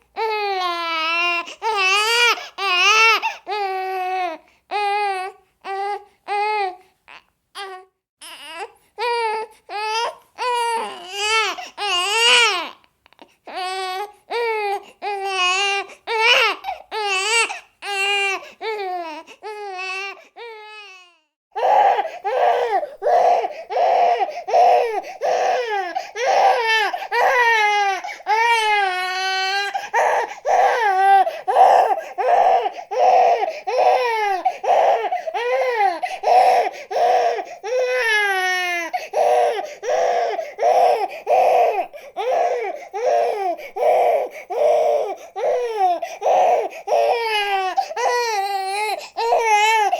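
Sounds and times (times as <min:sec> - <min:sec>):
baby crying: 0:00.1 - 0:49.9.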